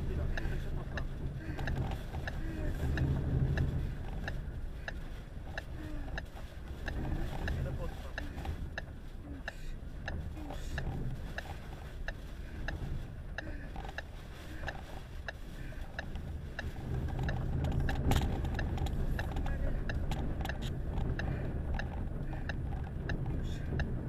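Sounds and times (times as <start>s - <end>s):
car indicator ticking: 0.0s - 24.0s
wind and road noise rumble: 0.0s - 24.0s.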